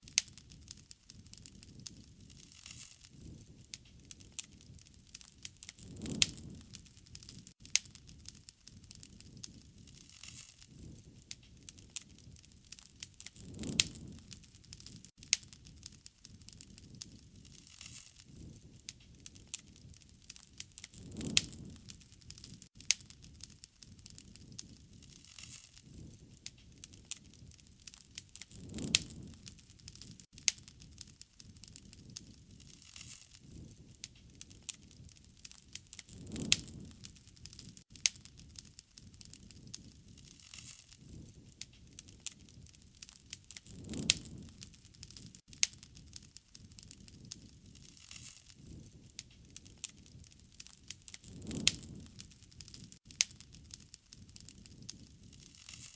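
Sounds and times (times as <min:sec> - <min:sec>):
low whoosh of flames: 0:00.0 - 0:55.9
wood fire crackling and popping: 0:00.0 - 0:55.9.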